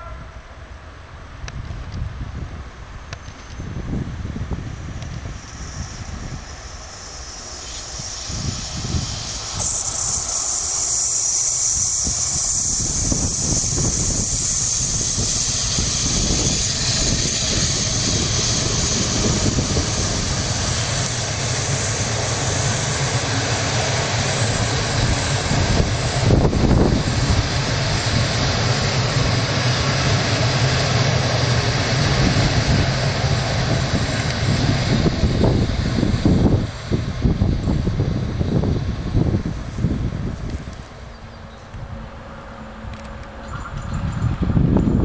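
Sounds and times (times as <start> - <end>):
train wheels rumbling on rails: 0.0 - 45.0
high hiss: 3.1 - 45.0.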